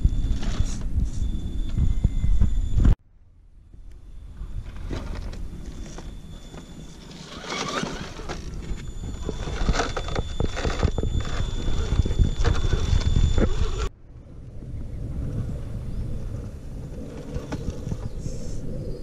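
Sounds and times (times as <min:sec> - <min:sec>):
electric motor and gear whine: 0:00.0 - 0:03.0, 0:03.7 - 0:19.0.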